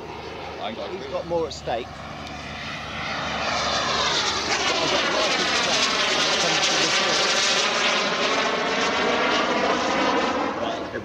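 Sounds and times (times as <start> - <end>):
model jet turbine rushing: 0.0 - 11.0.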